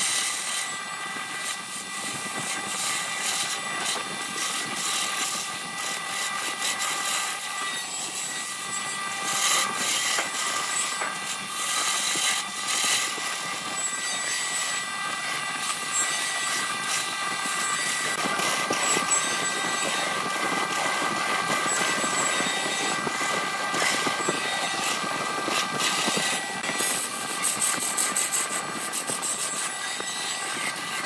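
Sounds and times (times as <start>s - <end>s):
turning tool scraping wood: 0.0s - 31.0s
wood lathe motor whine: 0.0s - 31.0s.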